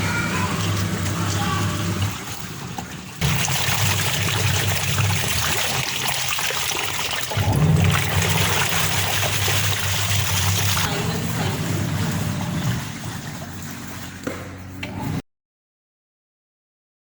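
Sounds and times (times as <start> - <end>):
washing machine motor hum: 0.0 - 15.2
water trickling and splashing: 0.3 - 14.6.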